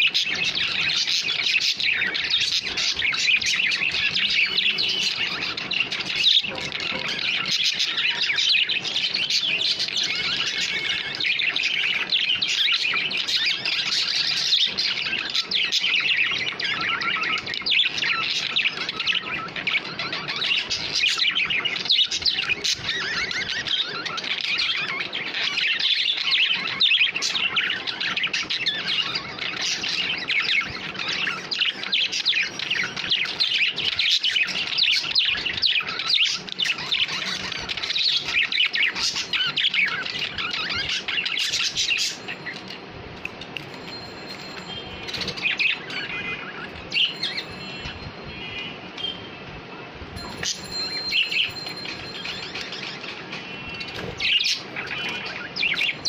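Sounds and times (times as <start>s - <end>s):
budgerigars chattering and chirping: 0.0s - 49.2s, 50.2s - 56.0s.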